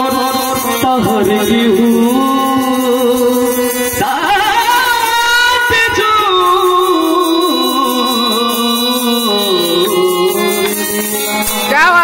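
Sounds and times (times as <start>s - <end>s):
harmonium: 0.0s - 12.0s
man singing: 0.0s - 12.0s.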